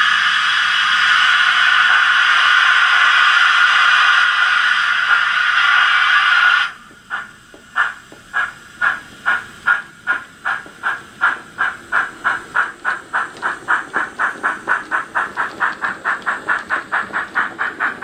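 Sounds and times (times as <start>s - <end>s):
steam hiss from small speaker: 0.0s - 18.0s
steam locomotive exhaust chuffs: 0.0s - 18.0s.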